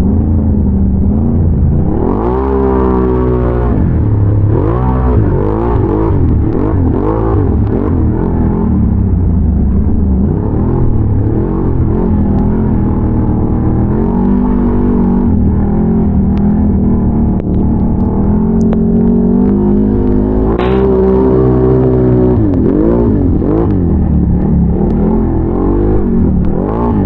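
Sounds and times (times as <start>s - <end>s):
atv engine revving: 1.0s - 9.2s, 10.2s - 27.0s.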